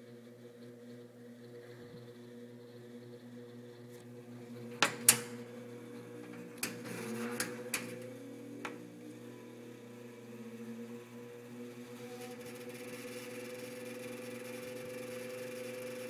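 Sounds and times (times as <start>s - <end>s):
box fan motor hum: 0.0s - 16.0s.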